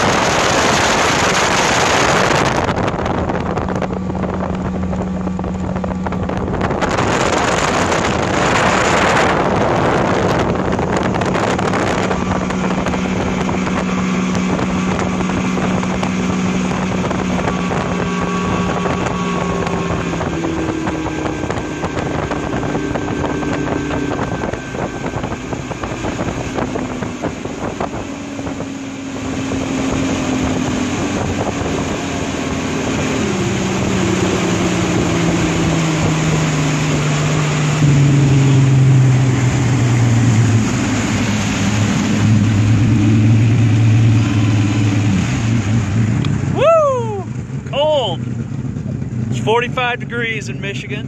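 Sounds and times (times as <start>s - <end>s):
outboard motor running: 0.0s - 51.0s
water rushing: 0.0s - 51.0s
wind: 0.0s - 51.0s.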